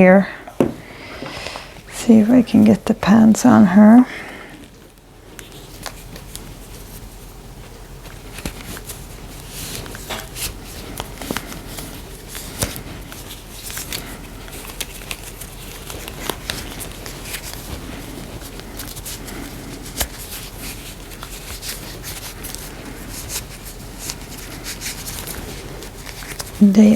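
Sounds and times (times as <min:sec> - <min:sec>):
fabric rustling: 0:03.9 - 0:26.9.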